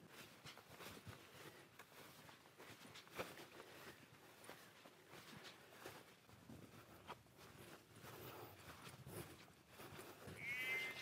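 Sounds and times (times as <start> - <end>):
faint footsteps on path: 0.0 - 11.0.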